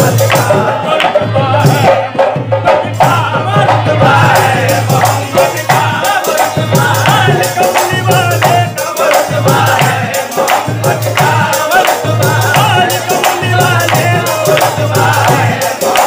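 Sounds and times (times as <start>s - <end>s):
harmonium: 0.0s - 16.0s
men singing: 0.0s - 16.0s.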